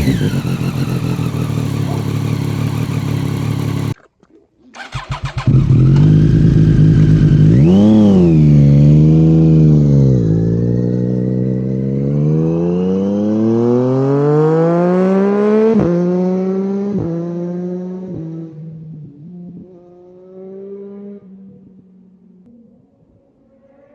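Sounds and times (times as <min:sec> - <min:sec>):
motorcycle engine revving: 0:00.0 - 0:04.0, 0:04.8 - 0:22.4.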